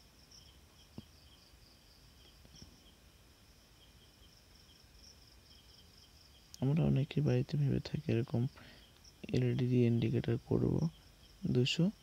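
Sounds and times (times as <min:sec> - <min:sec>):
faint insect chirping: 0:00.0 - 0:12.0.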